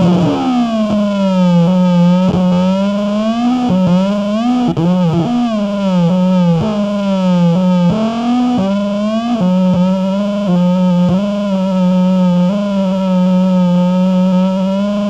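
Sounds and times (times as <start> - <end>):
synthesizer tone sliding and bending: 0.0 - 15.0.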